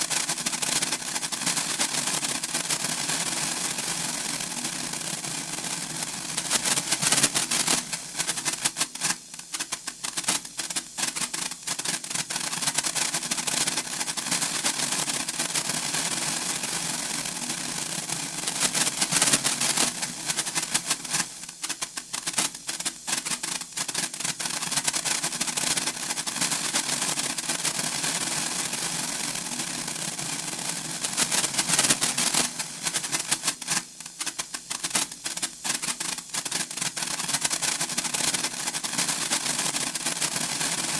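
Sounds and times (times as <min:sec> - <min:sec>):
sparkler crackling: 0:00.0 - 0:40.9.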